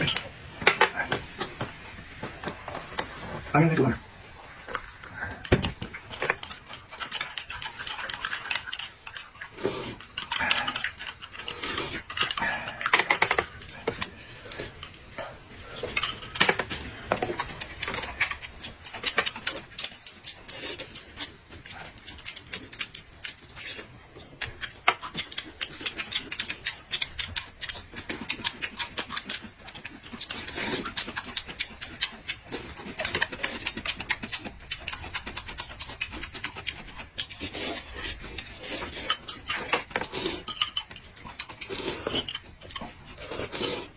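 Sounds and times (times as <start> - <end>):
chewing and smacking: 0.0 - 43.9.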